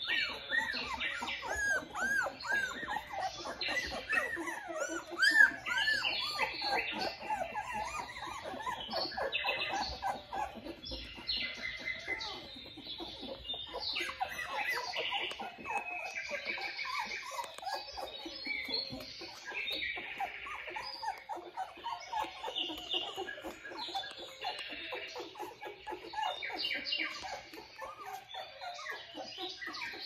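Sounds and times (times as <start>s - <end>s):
puppies squeaking and whining: 0.0s - 30.0s.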